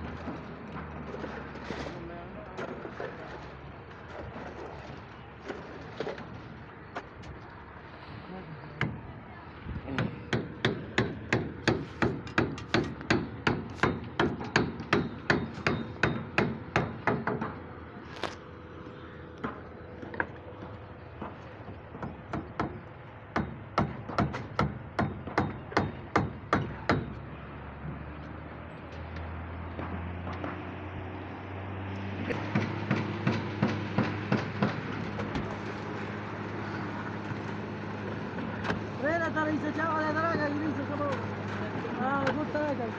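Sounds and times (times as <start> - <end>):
pumping equipment engine hum: 0.0 - 42.9.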